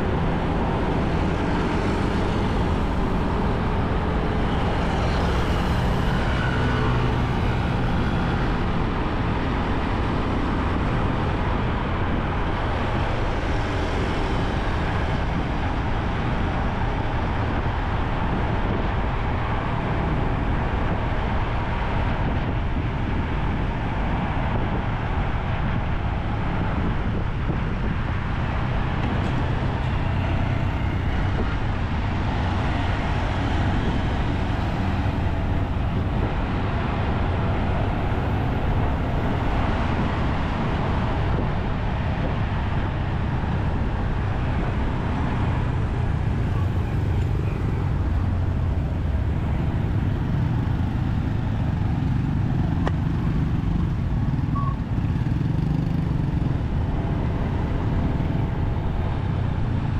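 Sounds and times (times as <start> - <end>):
motorcycle road noise: 0.0 - 59.9.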